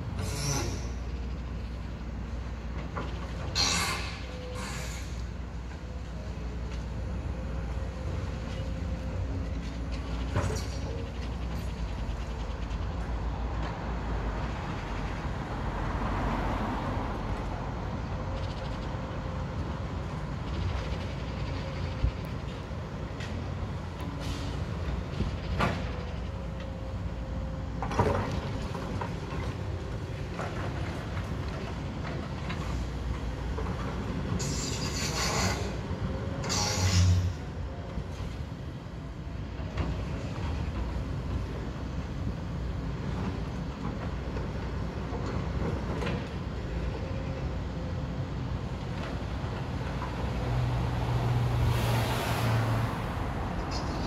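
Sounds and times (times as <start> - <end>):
excavator diesel engine running: 0.0 - 16.0, 17.0 - 50.8.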